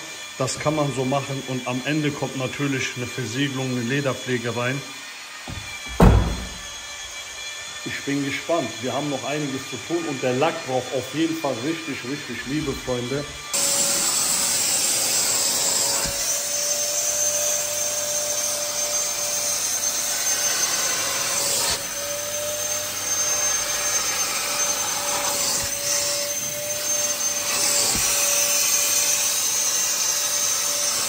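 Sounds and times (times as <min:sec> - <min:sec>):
wet vacuum whining: 0:00.0 - 0:31.0.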